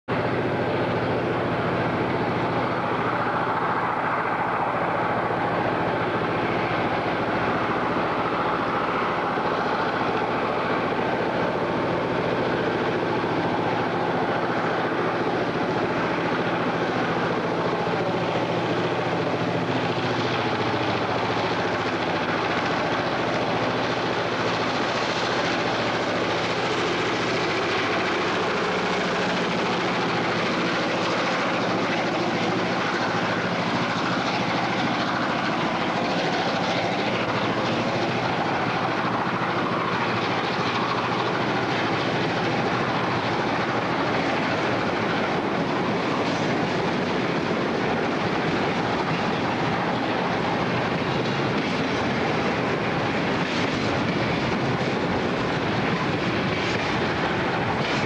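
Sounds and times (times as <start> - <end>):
locomotive engine drone: 0.0 - 58.0
train rumble: 0.1 - 58.0.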